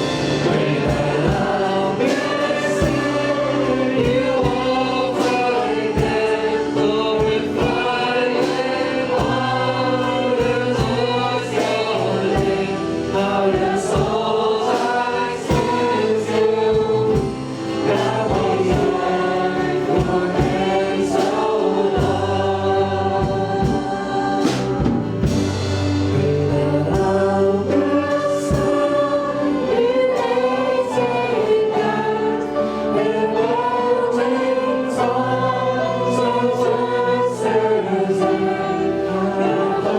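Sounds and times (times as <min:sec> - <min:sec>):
band with steady drum beat: 0:00.0 - 0:39.9
group of voices singing: 0:00.0 - 0:39.9.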